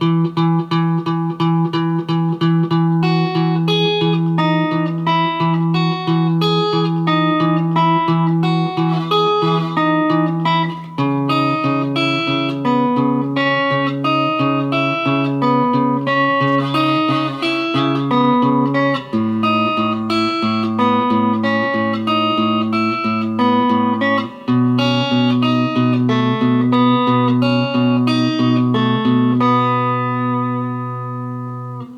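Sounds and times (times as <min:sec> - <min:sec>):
guitar picking arpeggios: 0:00.0 - 0:31.9.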